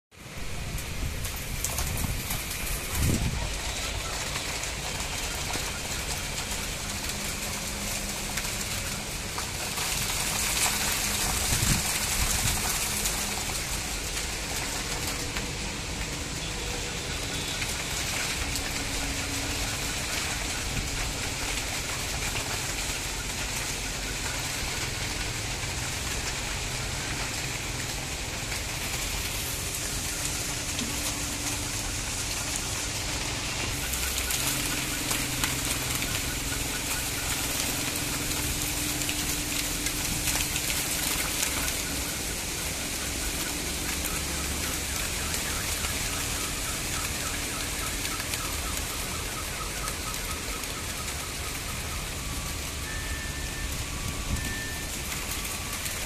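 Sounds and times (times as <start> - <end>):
rain falling: 0.1 - 56.0.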